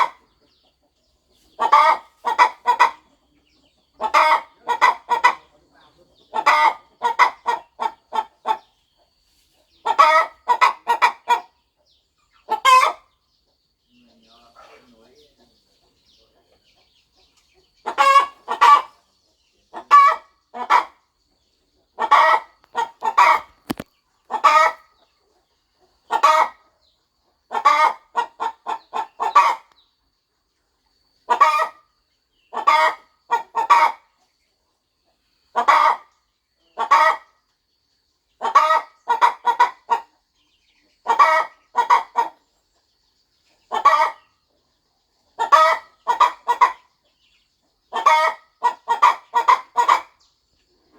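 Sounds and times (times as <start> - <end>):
hen clucking: 0.0 - 30.0, 30.9 - 37.6, 38.2 - 50.9.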